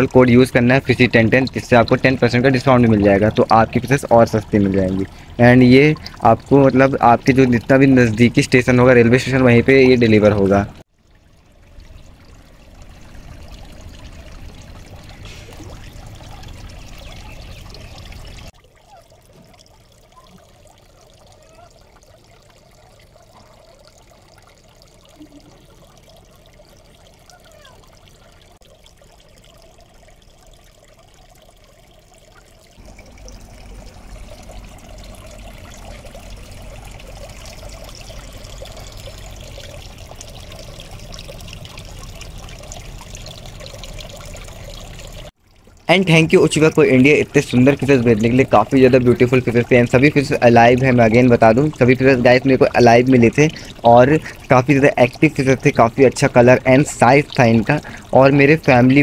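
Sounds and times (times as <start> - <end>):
water pouring into pond: 0.0 - 59.0.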